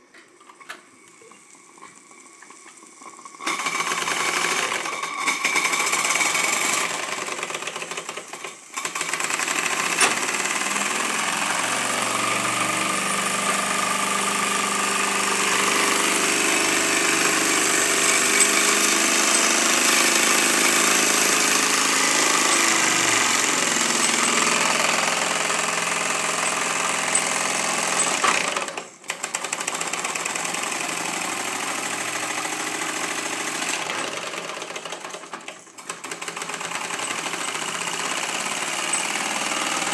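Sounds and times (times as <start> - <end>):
model steam engine mechanical beat: 3.3 - 39.9.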